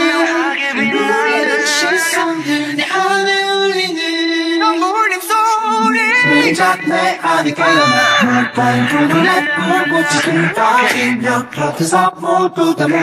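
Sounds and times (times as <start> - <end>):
men singing a cappella in harmony: 0.0 - 13.0.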